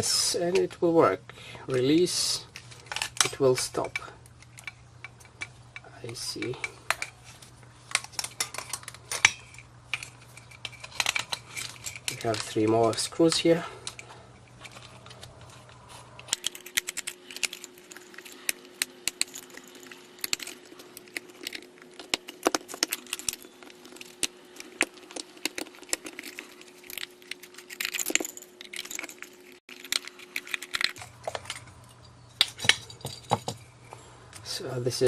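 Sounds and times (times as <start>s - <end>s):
plastic parts clicking and clattering: 2.5s - 7.2s, 7.8s - 31.8s.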